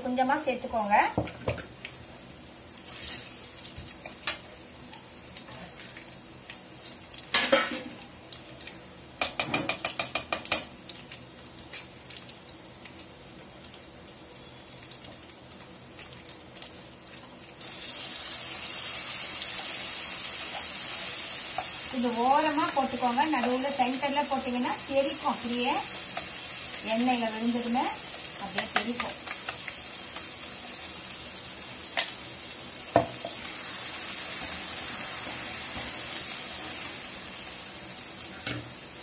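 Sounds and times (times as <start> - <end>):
loud steady sizzle: 0.0 - 39.0
oil frying gently: 0.0 - 39.0.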